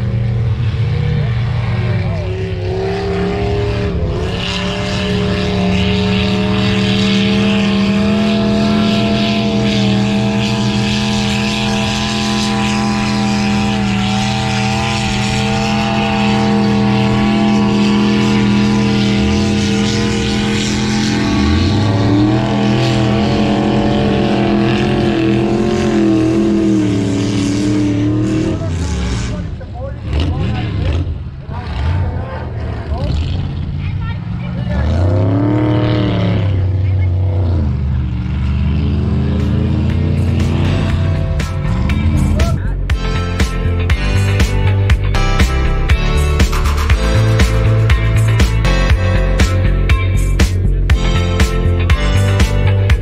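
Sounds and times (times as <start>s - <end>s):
off-road engine high revs: 0.0s - 53.0s
second engine revving: 0.0s - 53.0s.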